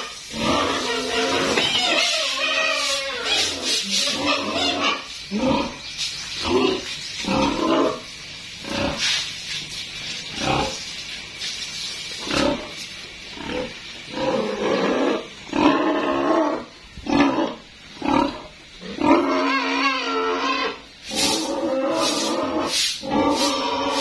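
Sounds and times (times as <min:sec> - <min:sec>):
pigs squealing: 0:00.0 - 0:09.1, 0:13.4 - 0:24.0.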